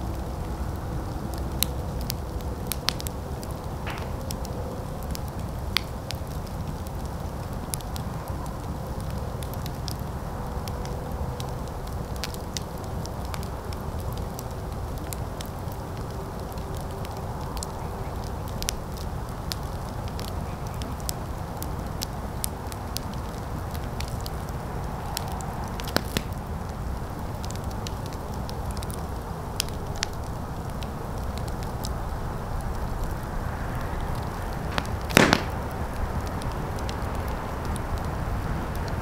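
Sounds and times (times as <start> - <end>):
fire crackling and popping: 0.0 - 39.0.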